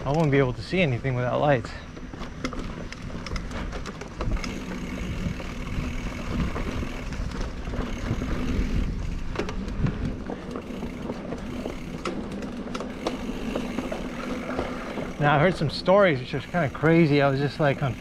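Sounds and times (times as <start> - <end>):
bike clicks and rattles: 0.0 - 18.0
bike tyres rolling on dirt: 0.0 - 18.0.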